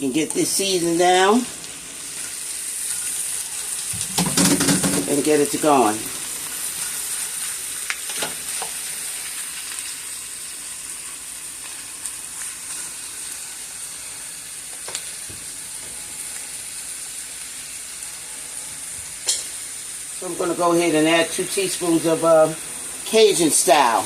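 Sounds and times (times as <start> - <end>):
beef sizzling in a pan: 0.0 - 24.0.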